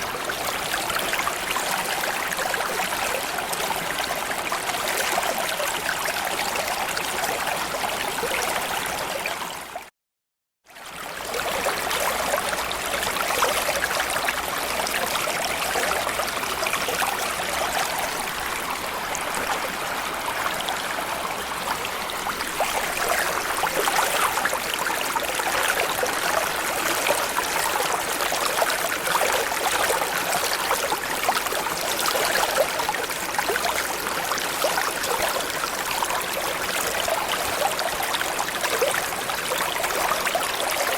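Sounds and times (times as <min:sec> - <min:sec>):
stream flowing over stones: 0:00.0 - 0:09.9, 0:10.8 - 0:40.9.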